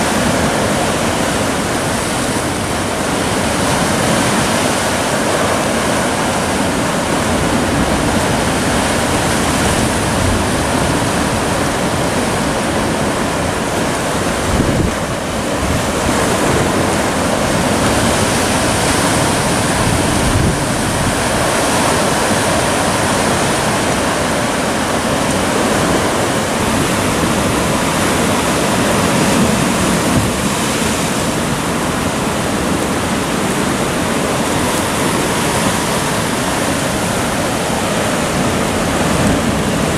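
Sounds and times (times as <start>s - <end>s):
surf breaking on rocks: 0.0s - 39.9s.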